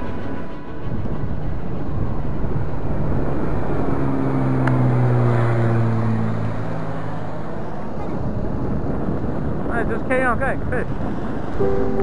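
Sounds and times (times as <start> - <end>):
small aircraft engine drone: 0.0 - 12.0
wind: 0.0 - 12.0.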